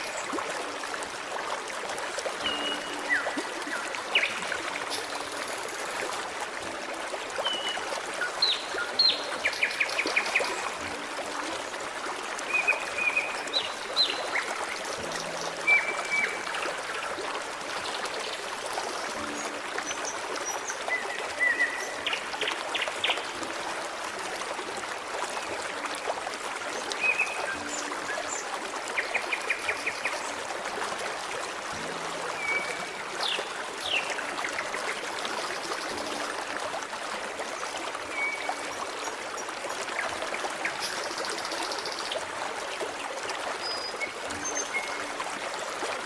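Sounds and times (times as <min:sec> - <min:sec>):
forest stream trickling: 0:00.0 - 0:46.0.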